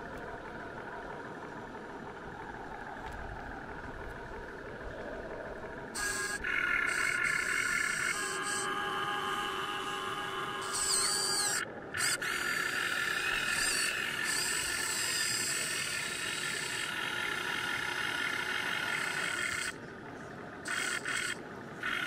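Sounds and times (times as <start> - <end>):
electric gear motors whining: 0.0 - 22.0.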